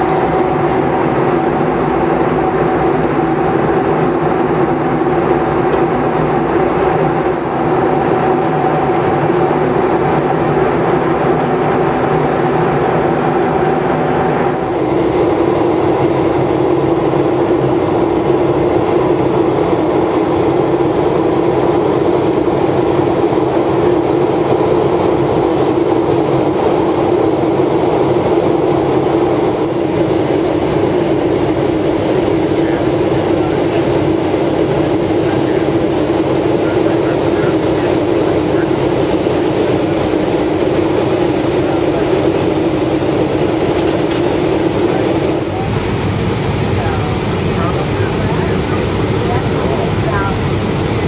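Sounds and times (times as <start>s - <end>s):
jet aircraft cabin noise: 0.0s - 51.0s.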